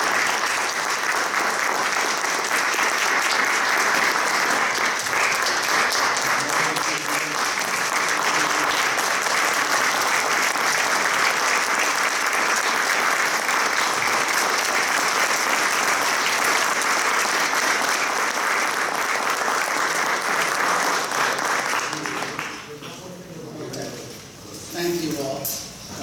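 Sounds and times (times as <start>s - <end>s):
people applauding: 0.0s - 22.8s.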